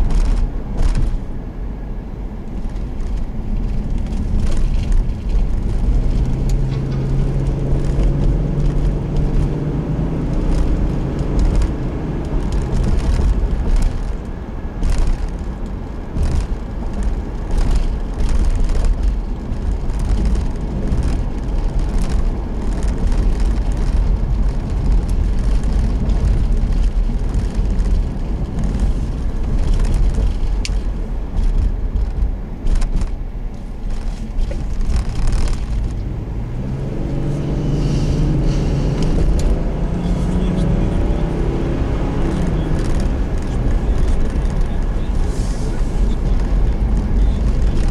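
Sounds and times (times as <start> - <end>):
road knocks and rattles: 0.0 - 47.9
vehicle engine accelerating: 0.0 - 47.9.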